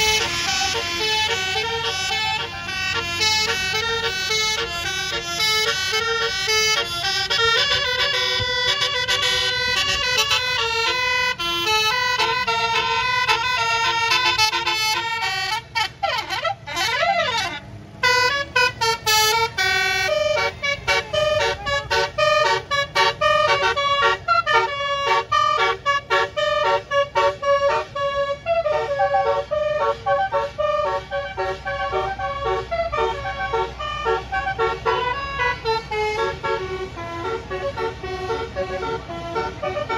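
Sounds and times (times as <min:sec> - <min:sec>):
bus musical horn tooting: 0:00.0 - 0:39.9.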